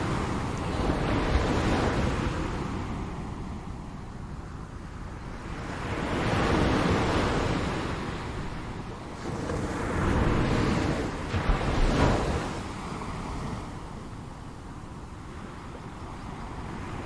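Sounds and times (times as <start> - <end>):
ocean waves washing onto shore: 0.0 - 17.0.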